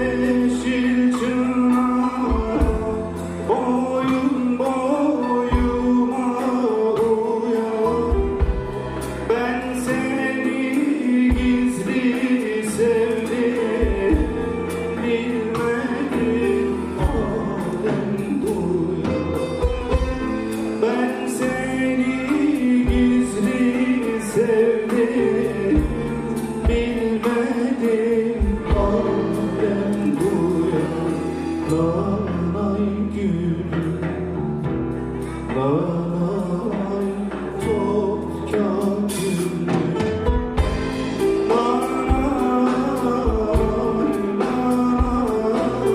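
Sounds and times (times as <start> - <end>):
folk song singing with instruments: 0.0 - 45.9.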